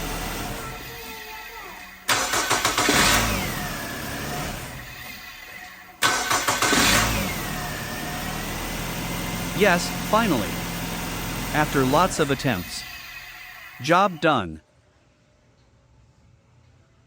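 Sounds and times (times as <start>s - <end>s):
car engine cranking and revving: 0.0s - 13.8s
car engine idling: 0.0s - 14.2s.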